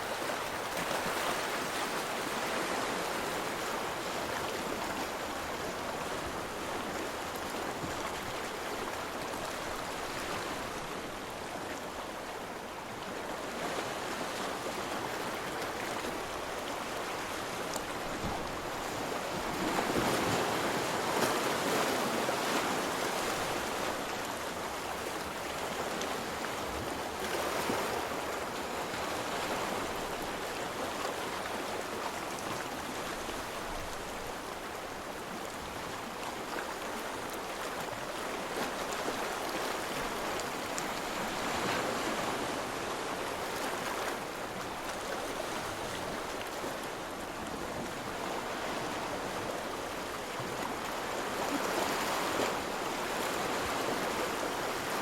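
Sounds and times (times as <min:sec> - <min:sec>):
rush of moving water: 0:00.0 - 0:55.0.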